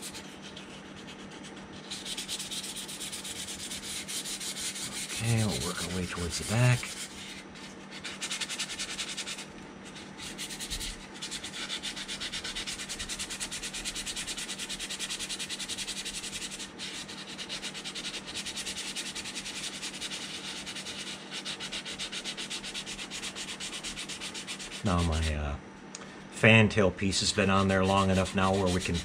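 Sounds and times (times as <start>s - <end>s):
sandpaper rubbing on putty: 0.0s - 25.4s, 27.3s - 29.0s.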